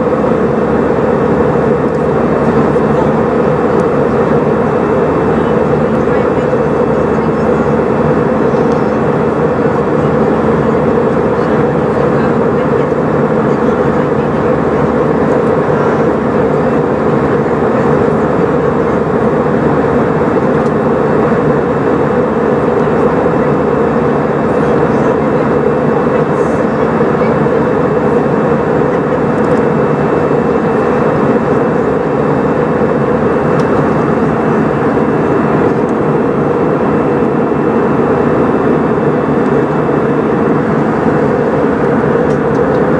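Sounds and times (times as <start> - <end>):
airplane cabin engine drone: 0.0 - 42.9.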